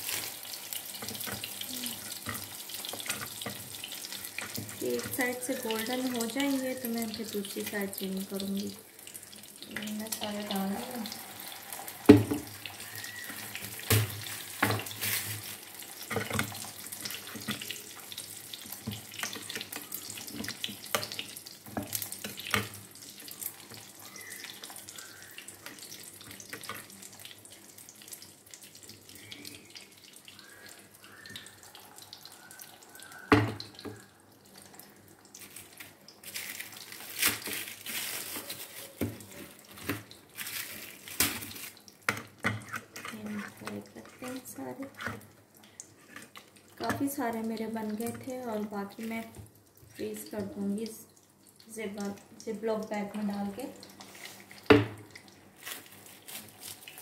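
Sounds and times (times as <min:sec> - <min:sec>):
oil sizzling with pops: 0:00.0 - 0:57.0.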